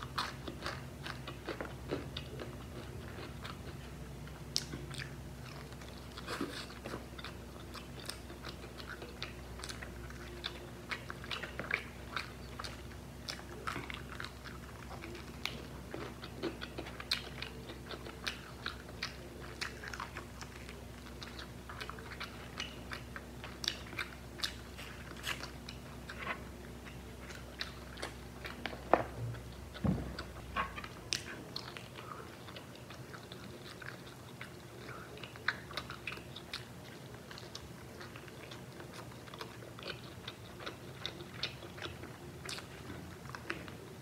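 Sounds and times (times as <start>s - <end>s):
faint steady hum: 0.0s - 44.0s
person chewing and biting: 0.0s - 44.0s.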